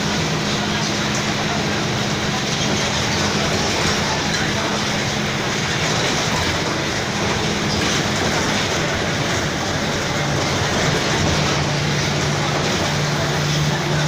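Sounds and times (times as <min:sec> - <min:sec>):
bus engine droning: 0:00.0 - 0:14.0.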